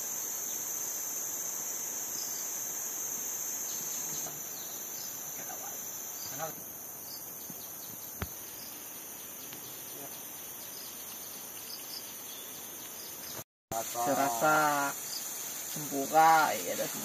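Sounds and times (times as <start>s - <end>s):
crickets buzzing chorus: 0.0s - 17.0s.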